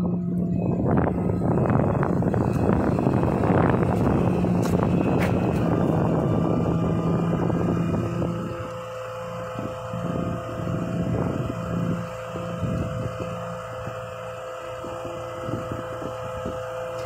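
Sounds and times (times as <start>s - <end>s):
diesel engine idling with whine: 0.0s - 17.0s
wind on microphone: 0.0s - 17.0s.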